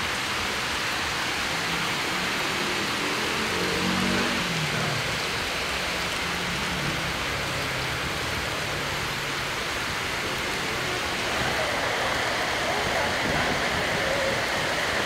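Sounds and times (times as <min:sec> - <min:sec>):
heavy rain on standing water: 0:00.0 - 0:15.0.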